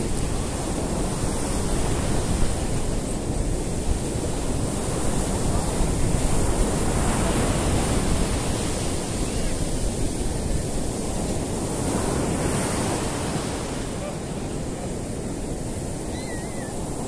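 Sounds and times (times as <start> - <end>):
surf washing up beach: 0.0 - 17.0.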